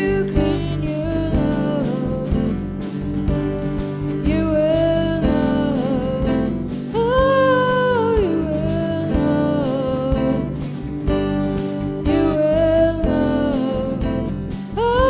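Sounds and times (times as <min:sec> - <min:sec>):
guitar: 0:00.0 - 0:15.0.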